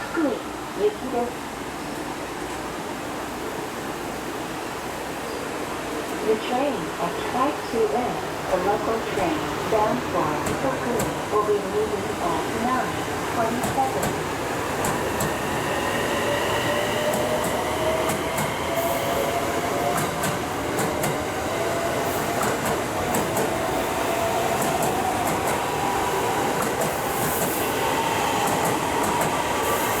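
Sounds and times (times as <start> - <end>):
train rolling rumble: 0.6 - 30.0.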